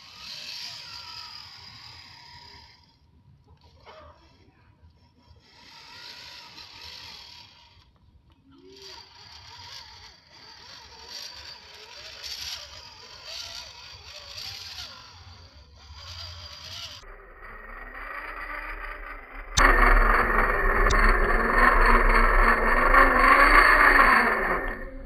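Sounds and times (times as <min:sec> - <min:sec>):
toy car electric motor whining: 0:00.0 - 0:25.0.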